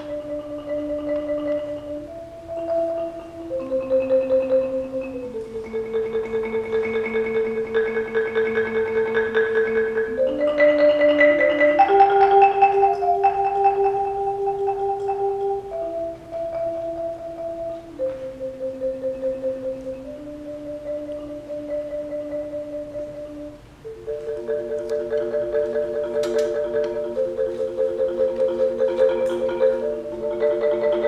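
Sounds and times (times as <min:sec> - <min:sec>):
marimba rolling: 0:00.0 - 0:31.0.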